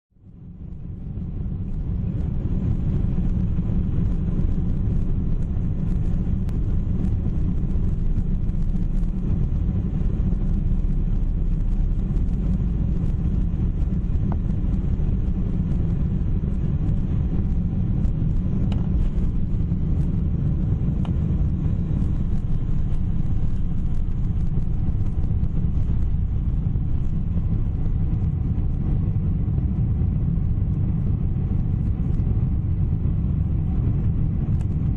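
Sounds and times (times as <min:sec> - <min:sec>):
airliner cabin rumble: 0:00.1 - 0:34.9.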